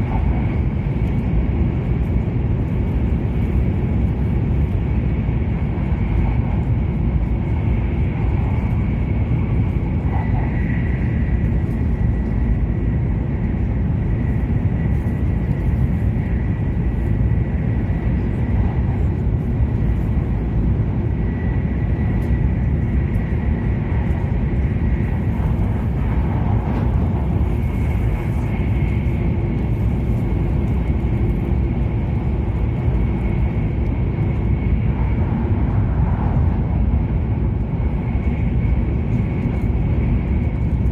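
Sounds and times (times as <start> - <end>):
train cabin low rumble: 0.0 - 40.9.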